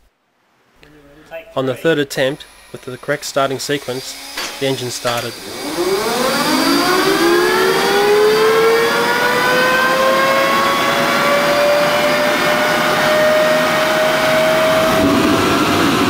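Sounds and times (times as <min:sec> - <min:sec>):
jet engine whine: 0:02.1 - 0:16.0
jet engine rushing noise: 0:02.2 - 0:16.0.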